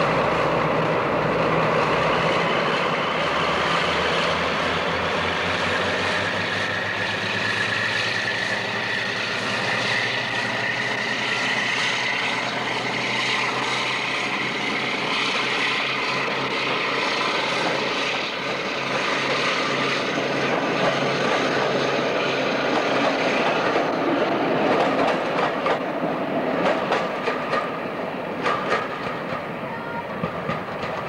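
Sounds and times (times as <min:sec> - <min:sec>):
diesel locomotive engine: 0:00.0 - 0:31.0
train wheels clicking over rail joints: 0:05.3 - 0:31.0.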